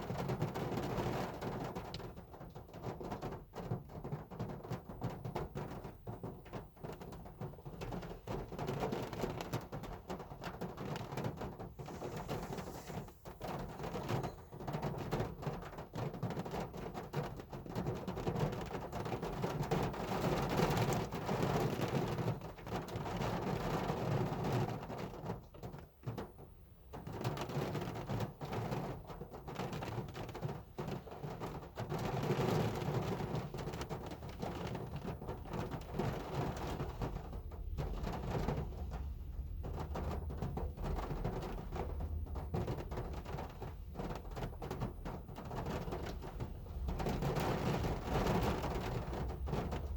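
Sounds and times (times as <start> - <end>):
heavy rain drumming on a car: 0.0 - 49.9.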